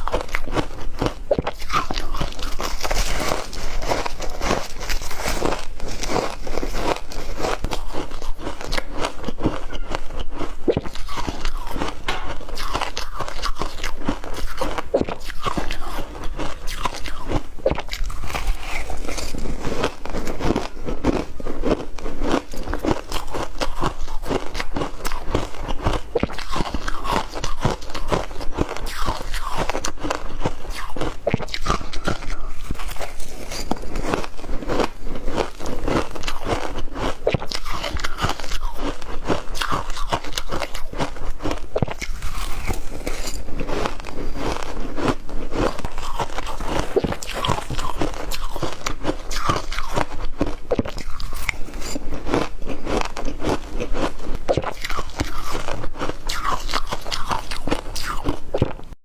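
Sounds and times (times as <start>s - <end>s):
person chewing crunchy ice: 0.0s - 59.0s.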